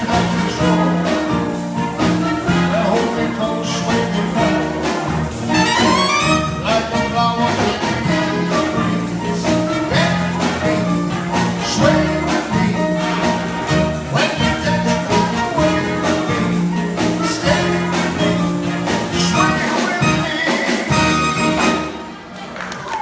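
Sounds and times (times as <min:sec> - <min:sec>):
big band playing dance music: 0:00.0 - 0:22.4.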